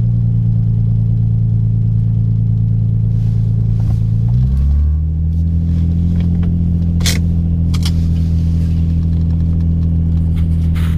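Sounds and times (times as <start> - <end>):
car engine running: 0.0 - 10.9.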